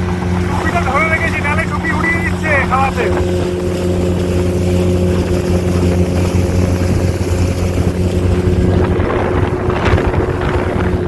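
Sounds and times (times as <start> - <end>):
motorboat engine running: 0.0 - 11.0
wind and water rushing: 0.0 - 11.0.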